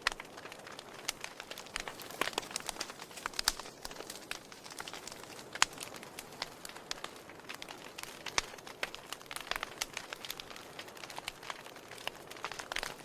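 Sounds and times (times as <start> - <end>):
soft steady hiss: 0.0 - 13.0
wood fire crackling and popping: 0.0 - 13.0.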